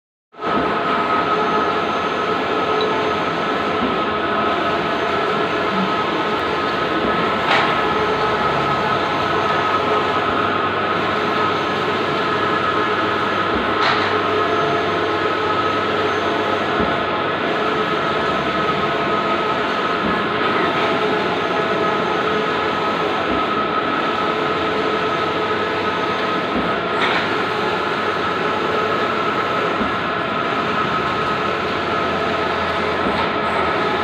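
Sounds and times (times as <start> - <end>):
printer mechanical whir: 0.4 - 34.0.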